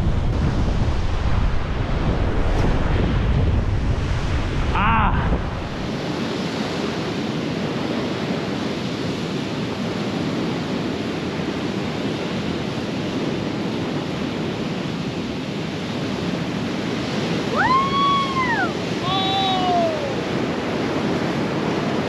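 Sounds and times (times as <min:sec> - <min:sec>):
ocean surf: 0:00.0 - 0:22.0
wind buffeting microphone: 0:00.0 - 0:22.0.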